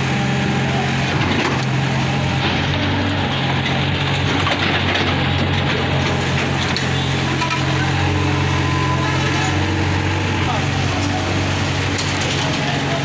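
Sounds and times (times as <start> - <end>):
excavator diesel engine: 0.0 - 13.0.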